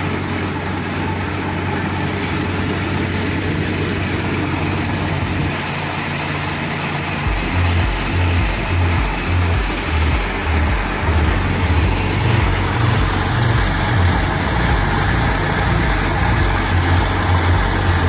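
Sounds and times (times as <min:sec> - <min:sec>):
engine humming: 0:00.0 - 0:18.0
low throbbing pulse: 0:00.0 - 0:18.0.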